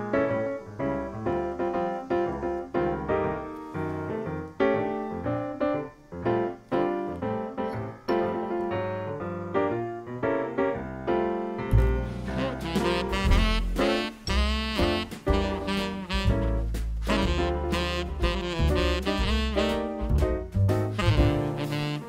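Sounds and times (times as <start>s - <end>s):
piano run: 0.0s - 22.0s.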